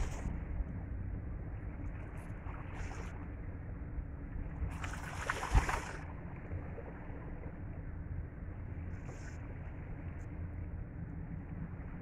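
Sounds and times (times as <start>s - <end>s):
waves: 0.0s - 12.0s
wind rumbling on microphone: 0.0s - 12.0s.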